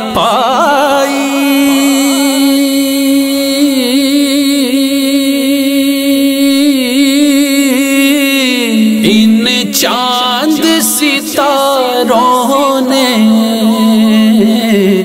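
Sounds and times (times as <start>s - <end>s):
man singing a long note: 0.0s - 15.0s.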